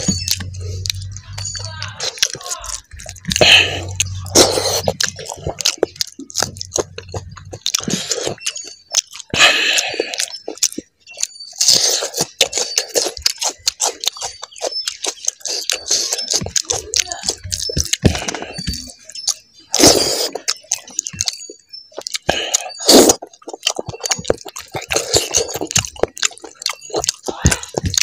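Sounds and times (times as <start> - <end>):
person chewing food: 0.0 - 28.0
wet mouth clicks: 0.0 - 28.0.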